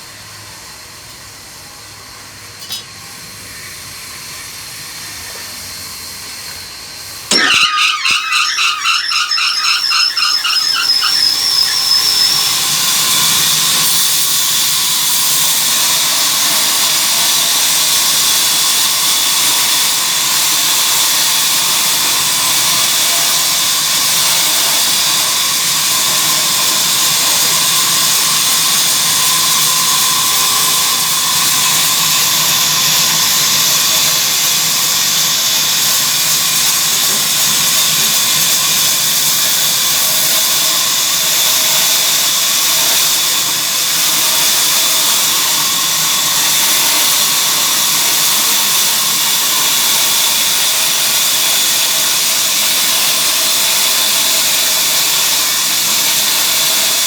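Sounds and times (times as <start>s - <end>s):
wood-sawing machine running: 7.3s - 57.0s.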